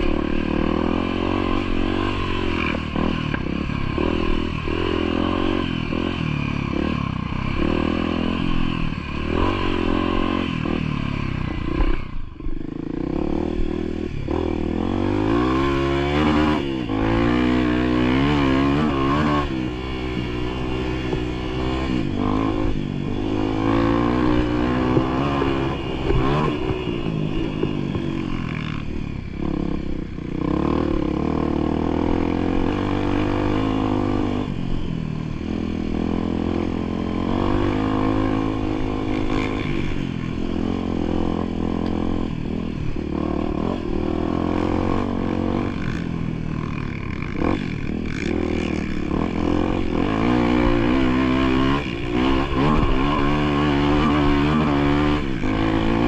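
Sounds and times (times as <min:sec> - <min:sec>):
off-road vehicle engine revving: 0:00.0 - 0:12.1, 0:12.8 - 0:56.0
vehicle rattling over rough trail: 0:00.0 - 0:56.0.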